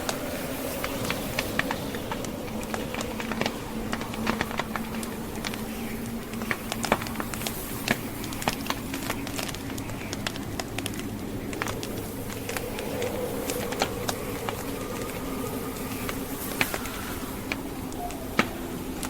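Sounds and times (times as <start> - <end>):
fire popping: 0.0 - 19.0
wind moaning: 0.0 - 19.0
wood fire crackling: 0.0 - 19.0.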